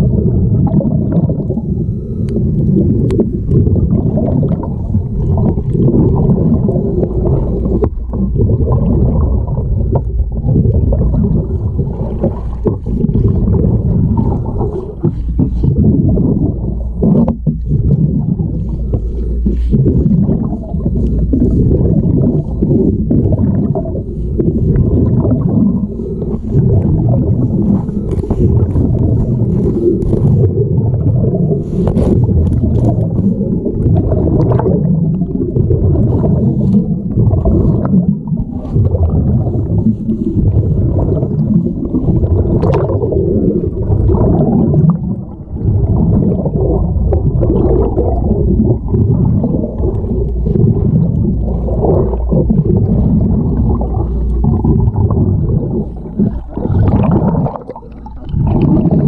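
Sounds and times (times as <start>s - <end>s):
muffled underwater water gurgling: 0.0s - 59.0s.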